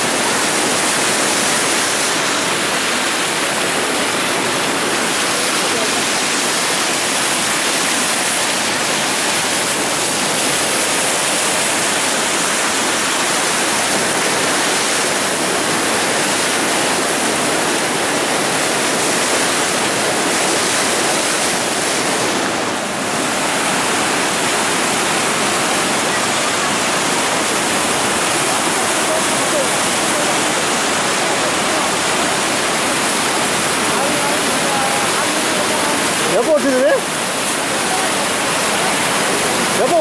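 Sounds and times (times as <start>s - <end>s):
floodwater pouring over a weir: 0.0s - 40.0s.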